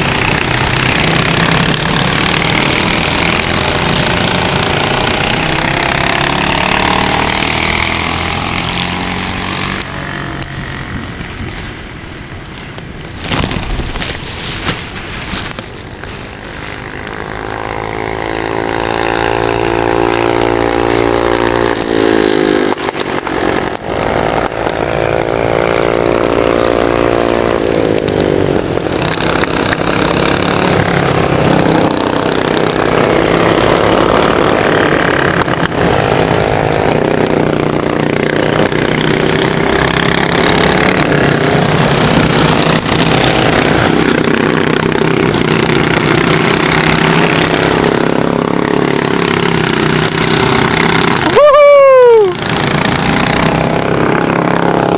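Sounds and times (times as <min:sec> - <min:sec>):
kart engine revving: 0:00.0 - 0:11.0, 0:13.1 - 0:51.4, 0:52.2 - 0:54.9.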